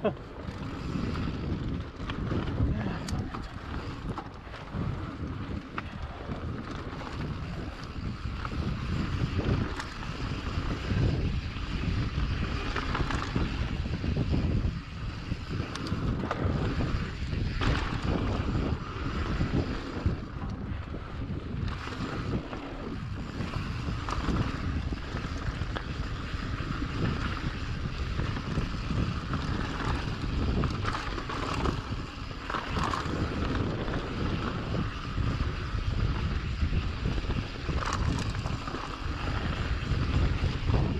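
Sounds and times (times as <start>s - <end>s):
mountain bike rattling on dirt trail: 0.0s - 40.9s
wind buffeting microphone: 0.0s - 40.9s.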